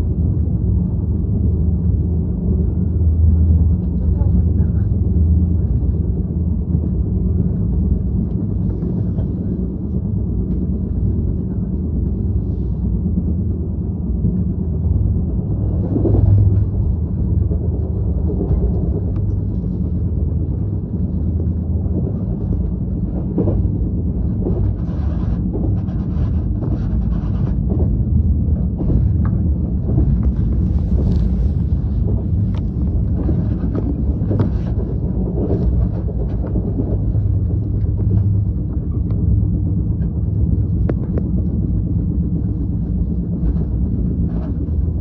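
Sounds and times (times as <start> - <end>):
low engine rumble: 0.0 - 45.0.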